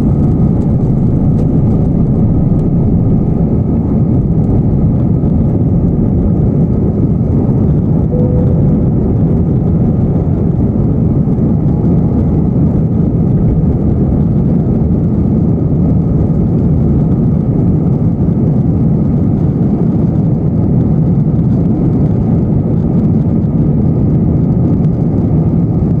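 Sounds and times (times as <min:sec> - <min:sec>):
jet engines roaring on takeoff: 0:00.0 - 0:25.6.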